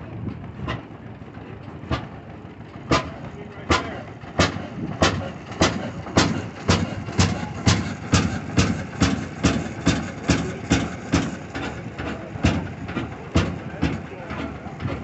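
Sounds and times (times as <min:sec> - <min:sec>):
gas engine exhaust bangs: 0:00.0 - 0:15.0.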